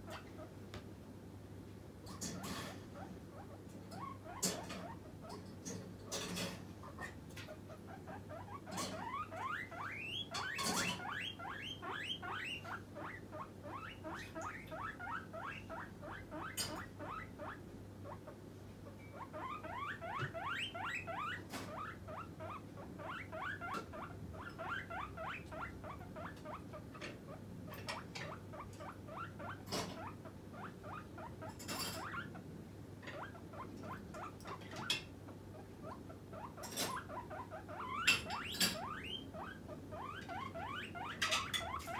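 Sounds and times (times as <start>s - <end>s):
guinea pig squeaking: 0.0s - 0.5s, 2.1s - 32.4s, 33.0s - 41.9s.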